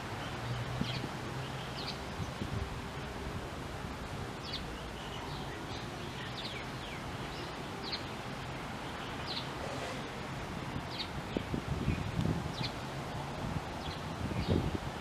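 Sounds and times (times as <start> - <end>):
wind rustling foliage: 0.0 - 15.0.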